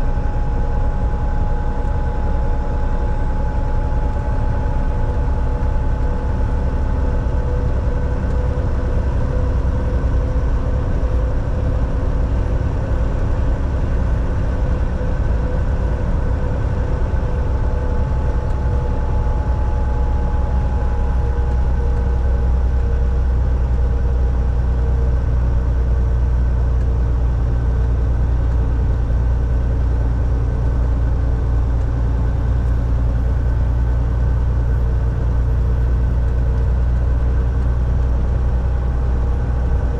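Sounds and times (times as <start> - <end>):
faint drivetrain whine: 0.0 - 39.9
truck engine drone: 0.0 - 39.9.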